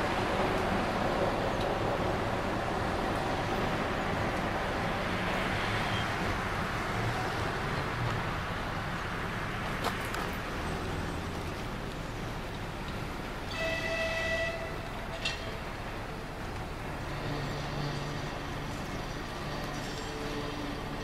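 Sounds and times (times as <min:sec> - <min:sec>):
electric railcar running on track: 0:00.0 - 0:21.0.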